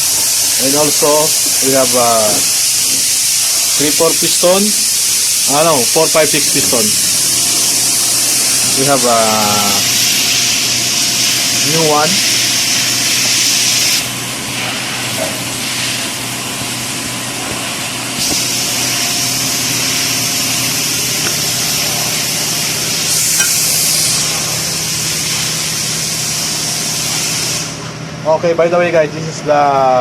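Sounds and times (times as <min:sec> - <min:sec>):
steady hiss: 0:00.0 - 0:27.8
low mechanical hum: 0:00.0 - 0:30.0.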